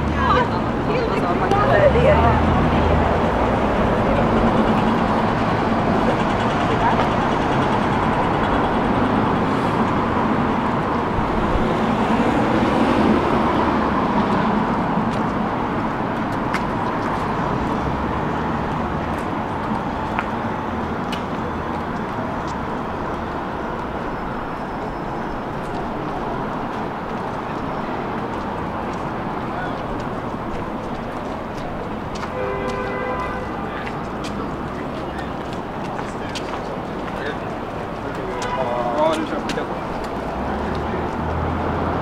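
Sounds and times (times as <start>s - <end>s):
passing traffic: 0.0s - 42.0s.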